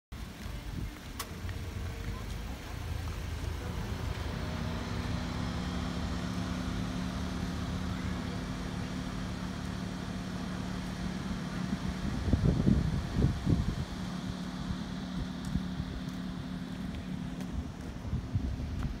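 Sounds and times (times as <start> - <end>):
low rumble: 0.1 - 19.0
low mechanical hum: 0.2 - 19.0.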